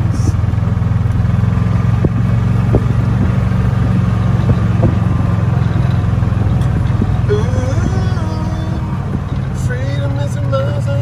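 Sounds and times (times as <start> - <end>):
golf cart motor rumble: 0.0 - 11.0.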